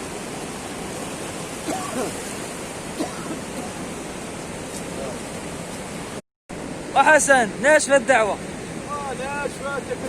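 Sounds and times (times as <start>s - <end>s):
sea surf on rocky shore: 0.0s - 10.0s.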